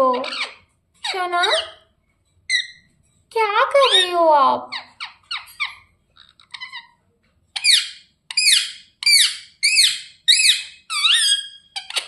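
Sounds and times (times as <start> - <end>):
parrot chirping: 0.0 - 1.9, 2.5 - 3.0, 3.7 - 12.0
parrot squawking: 0.0 - 1.9, 2.5 - 2.9, 3.8 - 12.0.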